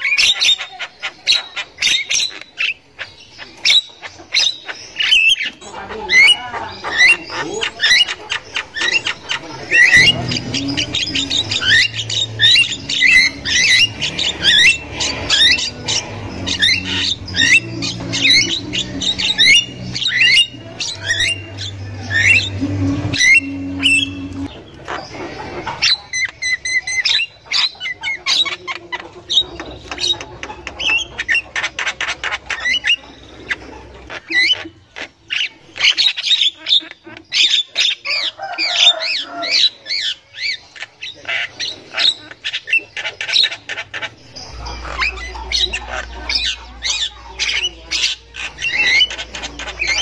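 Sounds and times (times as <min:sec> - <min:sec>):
bird chatter of harsh clicks: 0:00.0 - 0:22.5, 0:24.4 - 0:38.0, 0:40.2 - 0:50.0
mynas squawking: 0:00.0 - 0:50.0.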